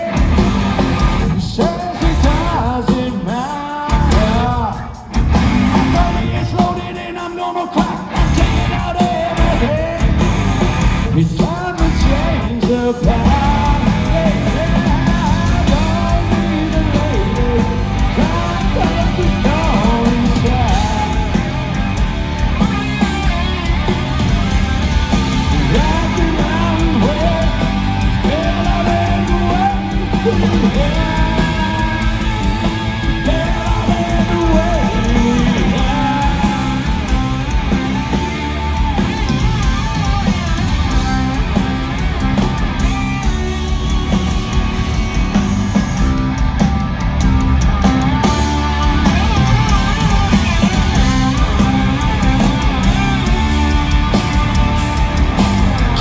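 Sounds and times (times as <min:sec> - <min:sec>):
electric guitar lead: 0:00.0 - 0:06.9, 0:08.0 - 0:56.0
live hard rock band: 0:00.0 - 0:56.0.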